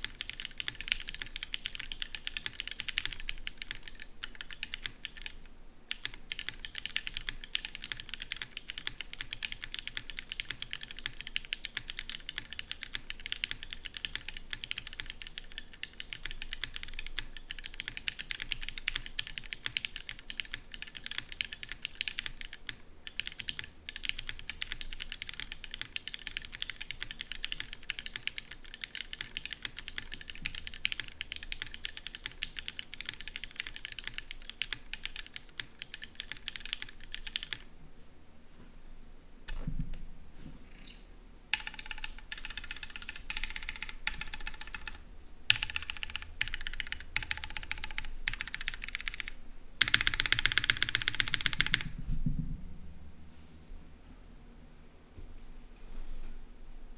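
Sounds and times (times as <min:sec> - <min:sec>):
fast mechanical keyboard typing: 0:00.0 - 0:37.7, 0:41.6 - 0:51.9.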